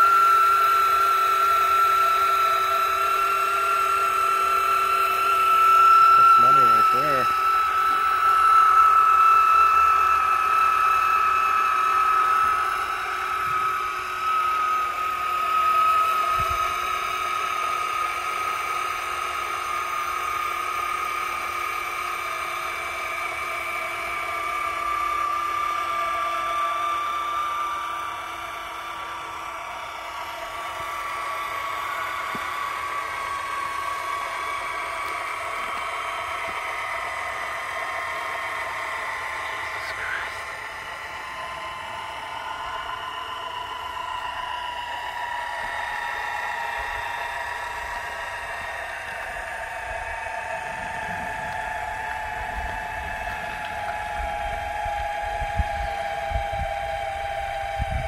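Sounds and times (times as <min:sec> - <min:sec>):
electric caulking gun motor whine: 0:00.0 - 0:58.0.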